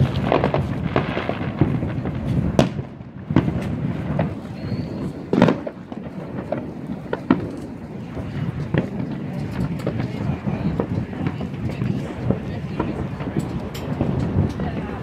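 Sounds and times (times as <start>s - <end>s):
distant fireworks booming: 0.0s - 15.0s
firecracker pops and bangs: 0.0s - 15.0s.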